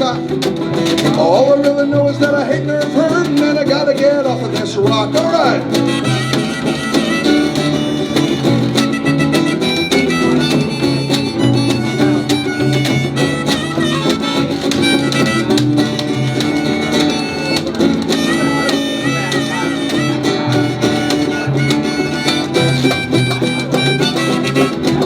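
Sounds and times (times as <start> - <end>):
live band playing: 0.0 - 25.0.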